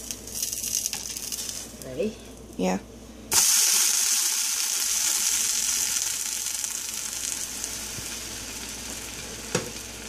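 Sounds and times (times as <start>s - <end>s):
sandwich sizzling in a frying pan: 0.0s - 1.8s, 3.3s - 10.0s.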